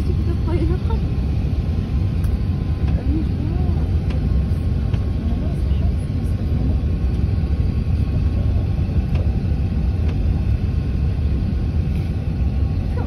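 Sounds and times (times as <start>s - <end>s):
aircraft engine and airflow rumble: 0.0s - 13.0s.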